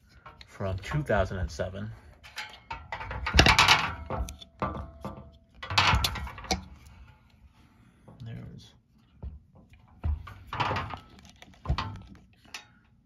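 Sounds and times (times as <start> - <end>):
scraping and rubbing of motor housing: 0.0 - 12.9.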